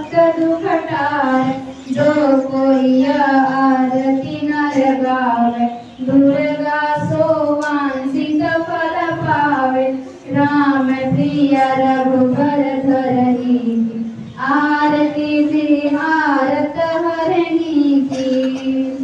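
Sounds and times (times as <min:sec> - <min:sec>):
girls singing in unison: 0:00.0 - 0:19.0.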